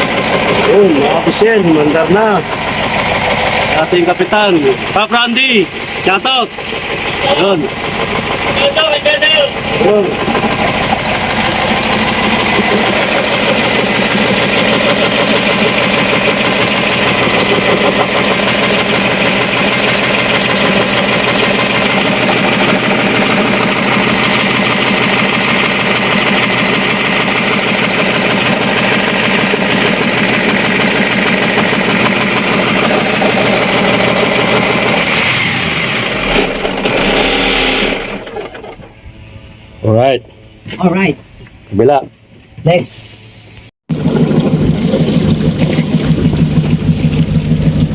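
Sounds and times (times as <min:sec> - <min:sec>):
diesel engine running loudly: 0:00.0 - 0:40.6, 0:43.9 - 0:47.9.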